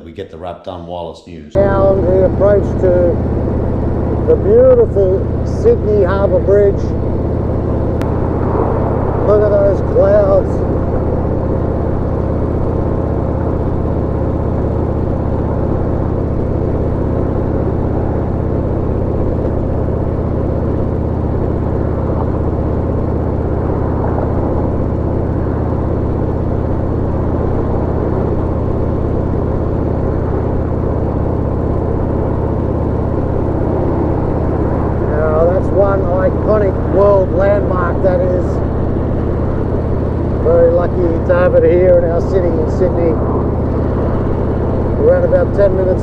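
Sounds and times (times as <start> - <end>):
road and wind noise: 5.2 - 46.0.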